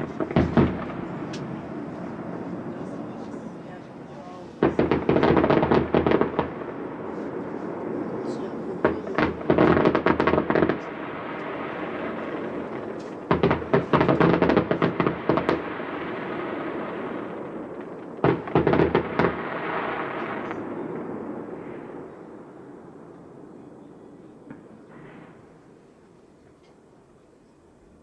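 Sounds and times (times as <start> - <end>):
fireworks bangs: 0.0 - 26.0
rolling echo: 0.0 - 26.9.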